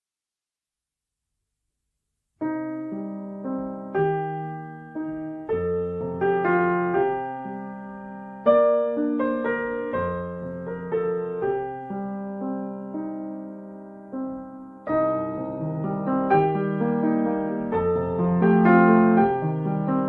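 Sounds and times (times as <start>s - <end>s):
slow solo piano music: 2.4s - 20.0s.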